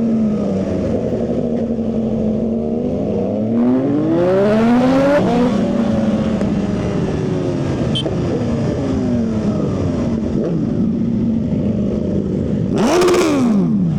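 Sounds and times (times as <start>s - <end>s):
motorcycle engine and exhaust: 0.0s - 13.9s.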